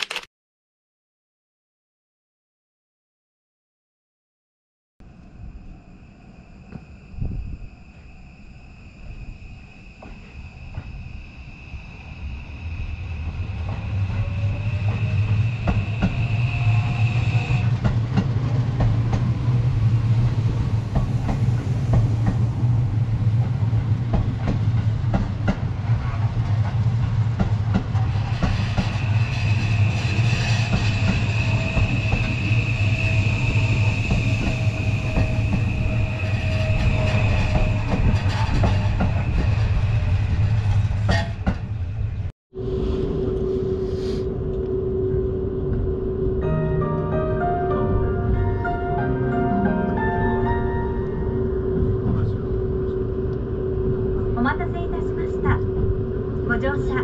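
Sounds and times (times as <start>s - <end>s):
electric train rumbling past: 5.0s - 57.0s.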